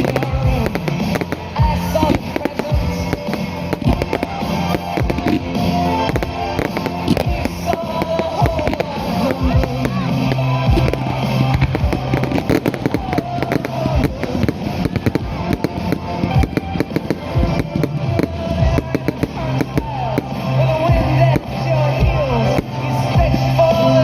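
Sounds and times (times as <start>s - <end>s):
fireworks crackling and banging: 0.0s - 24.0s
music: 0.0s - 24.0s.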